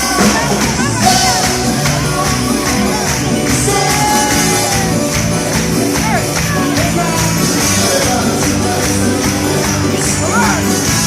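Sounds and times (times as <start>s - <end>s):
live band music: 0.0s - 11.0s
person singing: 0.0s - 11.0s
tambourine-like percussion: 0.0s - 11.0s.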